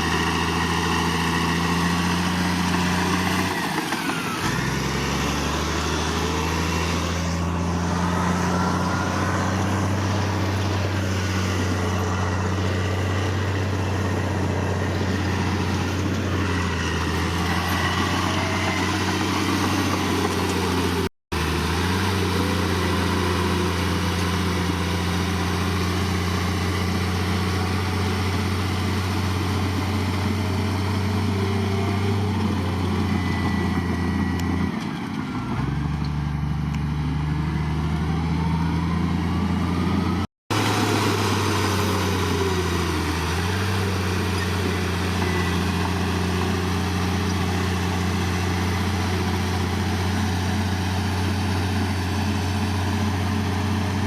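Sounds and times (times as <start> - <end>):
heavy diesel engine humming: 0.0 - 54.0.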